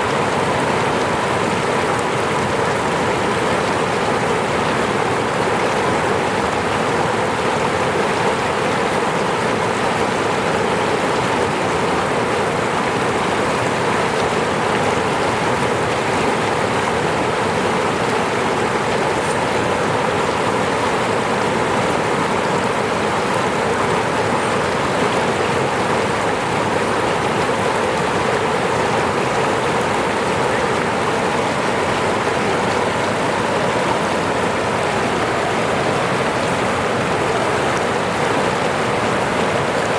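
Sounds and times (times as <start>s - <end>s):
falling water rushing and splashing: 0.0s - 39.9s.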